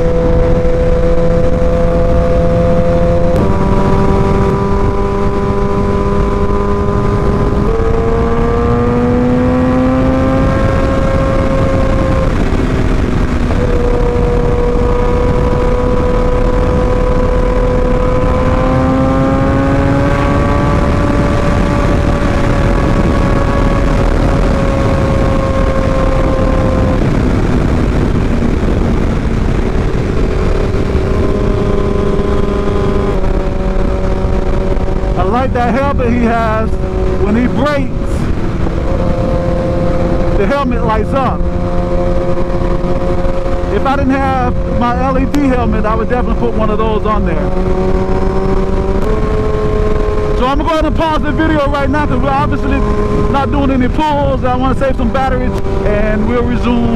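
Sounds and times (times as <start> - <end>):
motorcycle engine running: 0.0 - 56.9
wind rush: 0.0 - 56.9.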